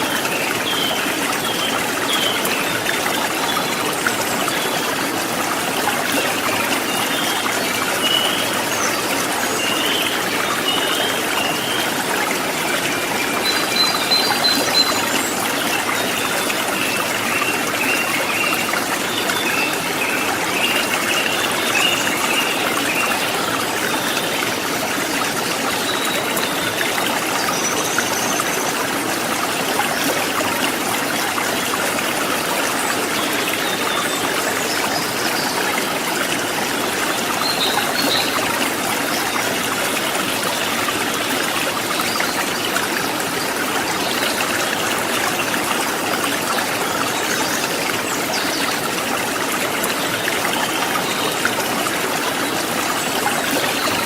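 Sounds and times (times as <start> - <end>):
river running over rocks: 0.0 - 54.0.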